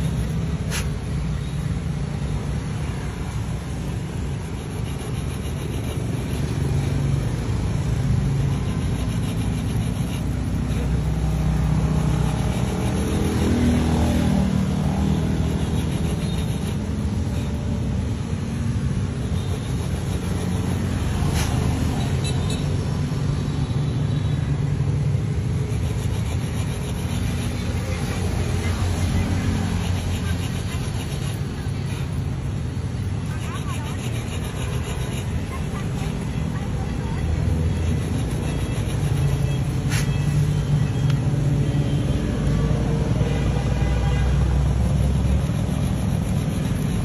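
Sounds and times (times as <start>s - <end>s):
needle file scraping metal wheel: 0.0s - 23.4s, 25.0s - 47.0s.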